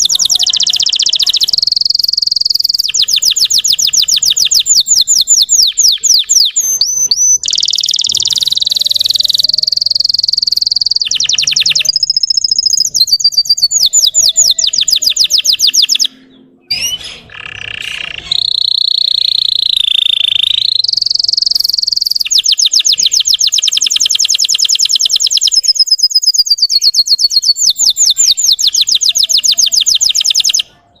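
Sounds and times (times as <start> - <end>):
canary singing trills: 0.0 - 31.0.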